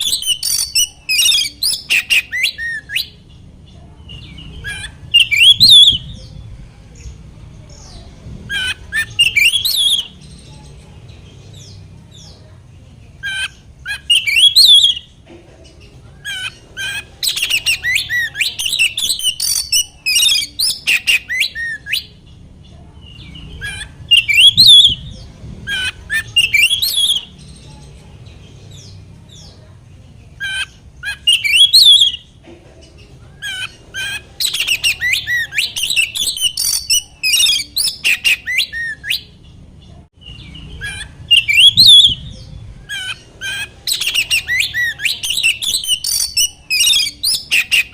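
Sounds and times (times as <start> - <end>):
bird singing fast varied phrases: 0.0 - 15.2, 15.8 - 32.4, 33.0 - 47.9.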